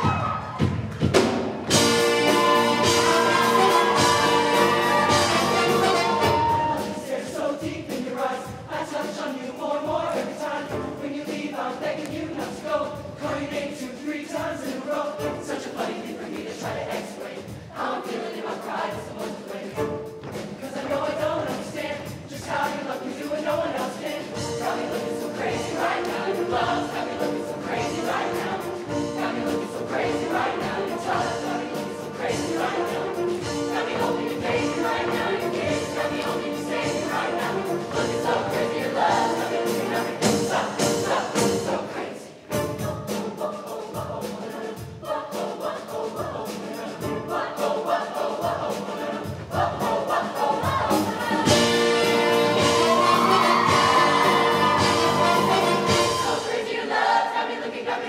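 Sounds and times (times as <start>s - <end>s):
choir singing with live band: 0.0s - 58.0s.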